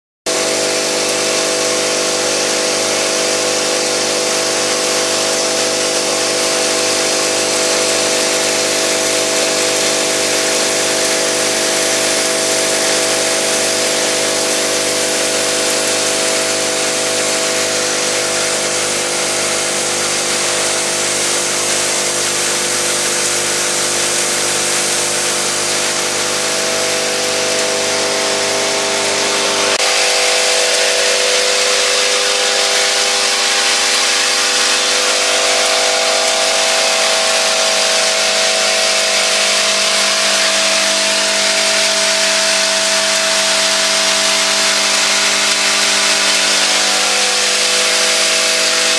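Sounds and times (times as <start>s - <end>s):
vibratory feeder buzzing: 0.3s - 48.9s.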